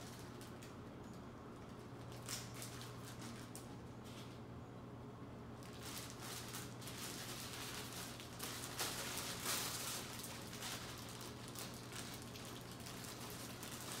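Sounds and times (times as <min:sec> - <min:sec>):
plastic bag crinkling: 0:00.0 - 0:04.3, 0:05.6 - 0:14.0
steady low hum: 0:00.0 - 0:14.0.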